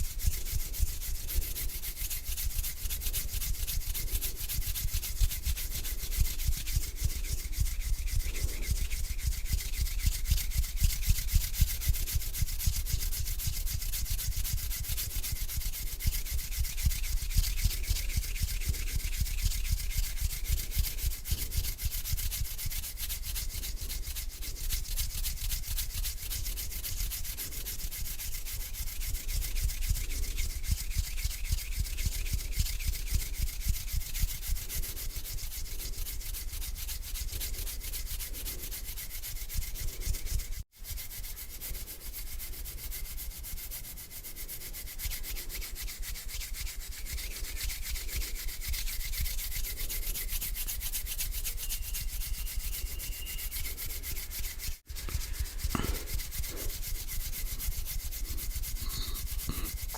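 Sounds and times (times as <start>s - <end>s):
hands rubbing together: 0.0s - 59.9s.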